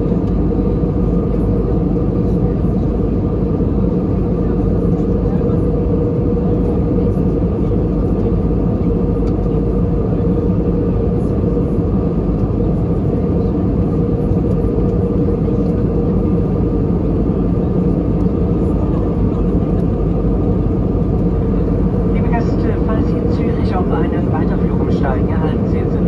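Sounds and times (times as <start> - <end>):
jet engines droning: 0.0 - 26.0
steady hum: 0.0 - 26.0.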